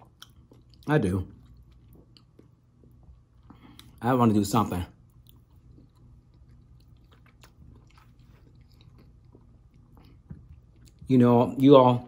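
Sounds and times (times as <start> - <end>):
chewing food: 0.0 - 4.0, 4.8 - 11.6.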